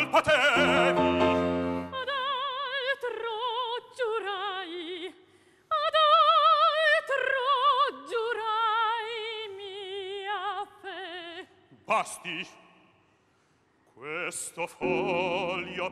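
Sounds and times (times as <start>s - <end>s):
operatic soprano singing: 0.0s - 12.6s, 14.0s - 15.9s.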